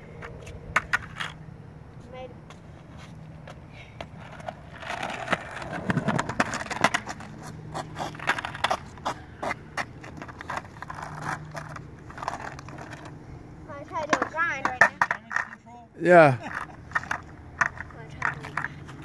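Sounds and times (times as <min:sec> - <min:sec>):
skateboard wheels rolling on asphalt: 0:00.0 - 0:19.0
skateboard clacking on ground: 0:00.2 - 0:01.4, 0:02.5 - 0:15.7, 0:16.4 - 0:19.0.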